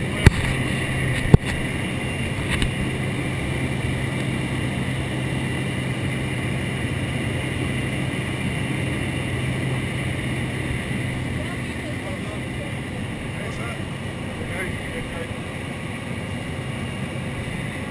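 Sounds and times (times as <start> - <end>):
plane engine and propeller drone: 0.0 - 17.9.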